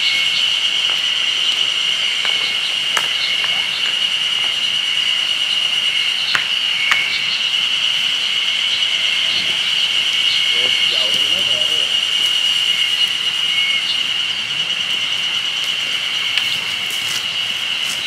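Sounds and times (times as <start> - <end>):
high-pitched drone: 0.0 - 18.0.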